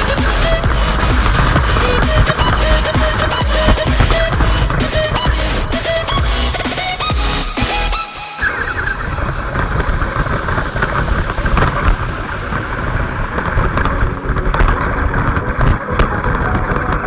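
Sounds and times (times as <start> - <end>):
rumbling crackling noise: 0.0 - 17.0.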